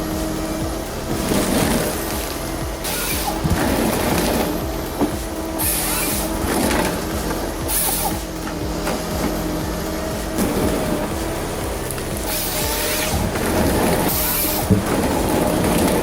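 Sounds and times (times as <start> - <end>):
heavy diesel machine running: 0.0 - 16.0
high hiss bursts: 0.0 - 16.0.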